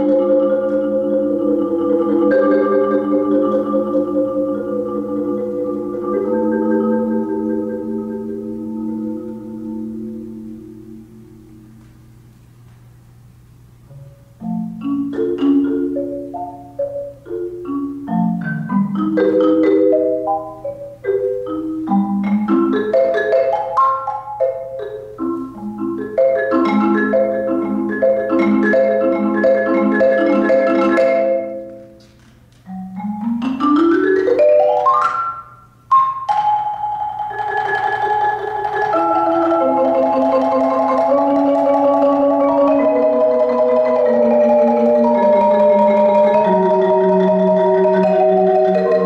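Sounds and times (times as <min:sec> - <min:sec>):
marimba played with mallets: 0:00.0 - 0:11.9, 0:13.9 - 0:49.0.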